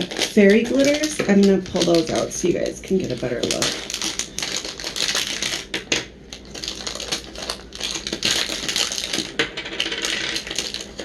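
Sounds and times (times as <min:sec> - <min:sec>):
plastic containers clattering: 0:00.0 - 0:02.3, 0:03.0 - 0:11.0.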